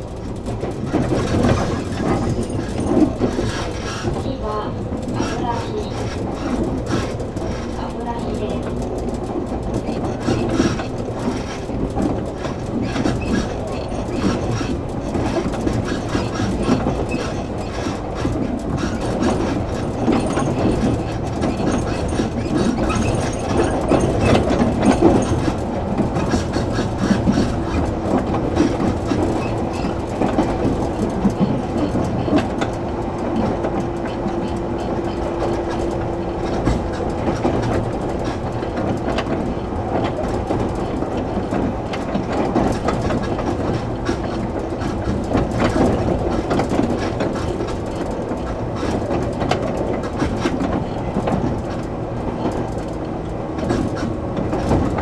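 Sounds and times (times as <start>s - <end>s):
train interior rumble: 0.0s - 55.0s
wheels clacking over rail joints: 0.0s - 55.0s.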